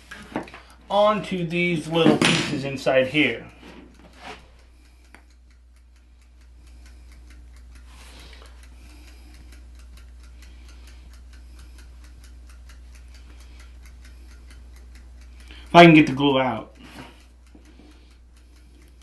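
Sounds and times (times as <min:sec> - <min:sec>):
kitchen timer ticking: 0:00.0 - 0:19.0
low steady hum: 0:00.0 - 0:19.0.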